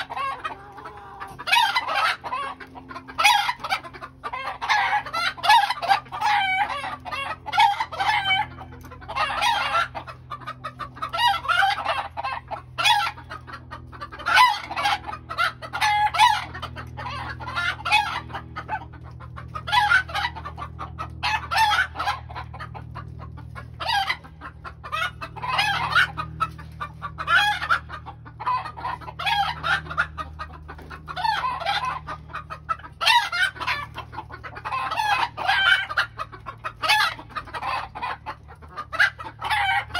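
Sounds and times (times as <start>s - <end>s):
chickens clucking and calling: 0.0s - 39.9s.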